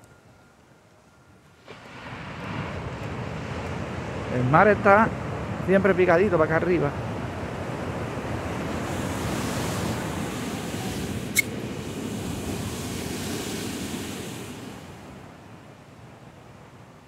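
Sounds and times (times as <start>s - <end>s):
waves breaking on shore: 1.5s - 17.0s.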